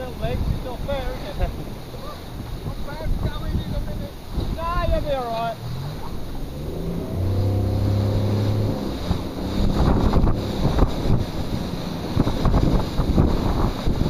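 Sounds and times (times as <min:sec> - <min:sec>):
motorboat engine running: 0:00.0 - 0:14.0
water splashing against hull: 0:00.0 - 0:14.0
wind buffeting microphone: 0:00.0 - 0:14.0.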